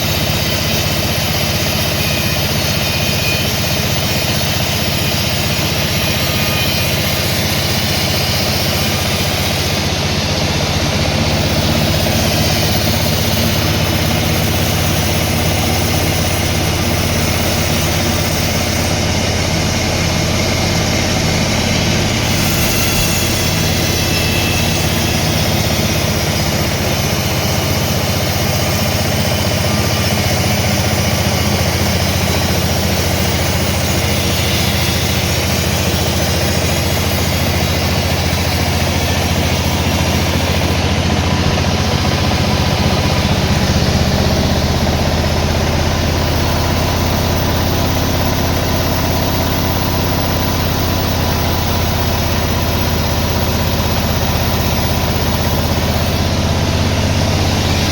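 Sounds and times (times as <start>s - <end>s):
sawmill machinery droning: 0.0s - 57.9s.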